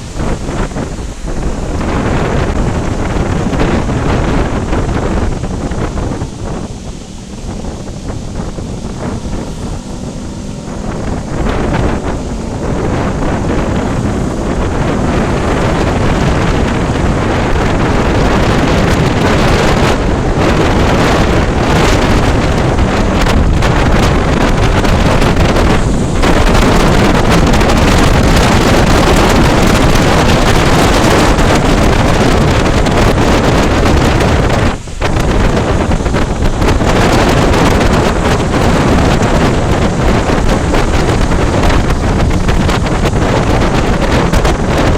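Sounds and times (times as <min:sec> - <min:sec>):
heavy rain: 0:00.0 - 0:44.9
wind roaring over microphone: 0:00.0 - 0:44.9.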